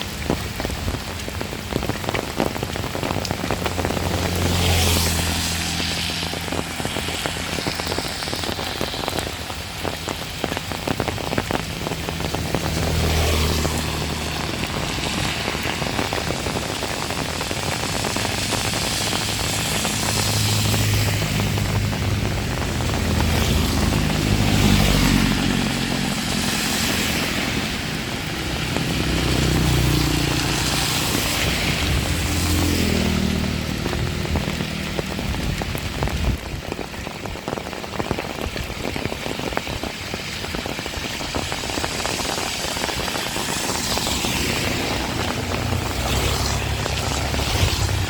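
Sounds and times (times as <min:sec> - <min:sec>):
heavy rain: 0:00.0 - 0:48.0
vehicles passing: 0:00.0 - 0:48.0.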